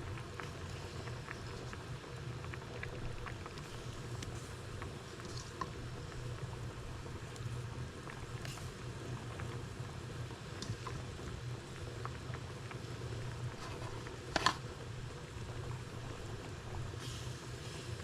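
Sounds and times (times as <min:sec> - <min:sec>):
liquid bubbling in a pot: 0:00.0 - 0:18.0
steady low hum: 0:00.0 - 0:18.0.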